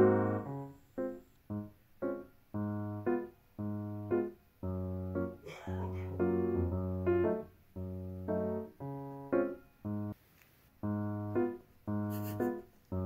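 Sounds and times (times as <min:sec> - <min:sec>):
keyboard melody: 0:00.0 - 0:10.2, 0:10.8 - 0:13.0.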